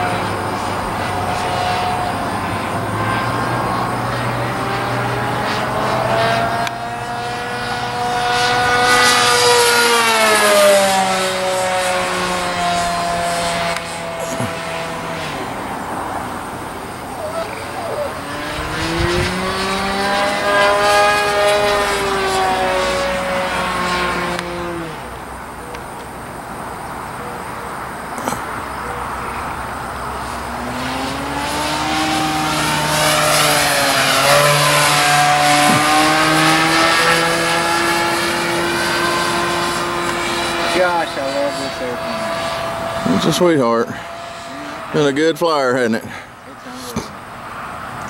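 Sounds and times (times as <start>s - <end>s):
model airplane flying overhead: 0.0s - 48.0s.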